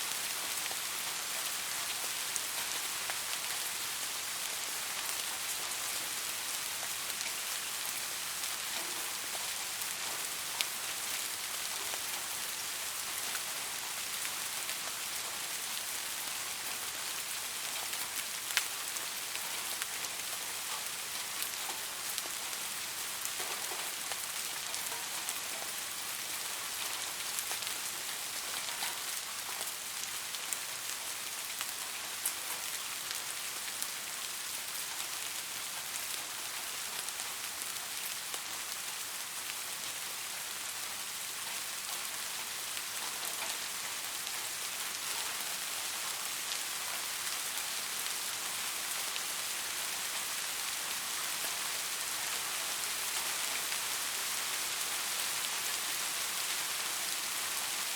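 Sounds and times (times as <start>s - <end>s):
raindrops striking a surface: 0.0s - 57.9s
steady rainfall hiss: 0.0s - 57.9s.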